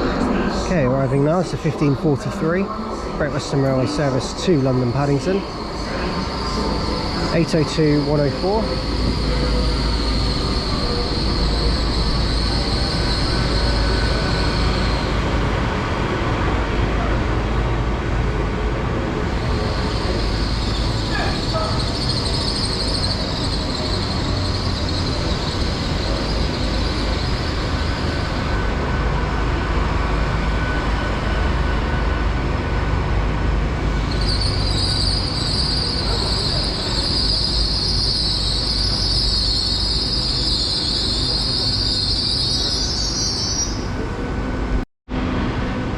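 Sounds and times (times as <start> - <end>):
high train squeal: 0.0 - 45.7
train rumble: 0.0 - 45.9.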